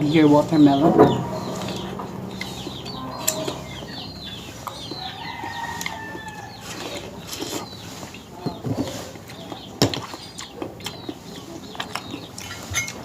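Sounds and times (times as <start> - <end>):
chickens clucking: 0.0 - 13.0
small birds chirping: 0.0 - 13.0.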